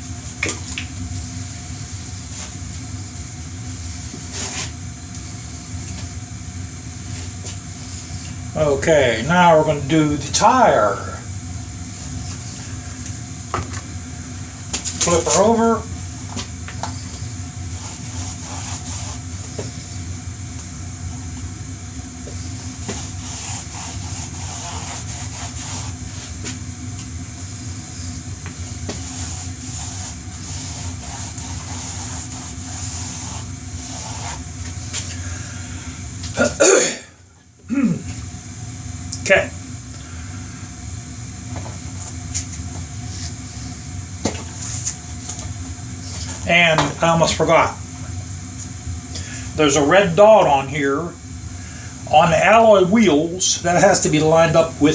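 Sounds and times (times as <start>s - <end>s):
mechanical hum with hiss: 0.0s - 54.9s.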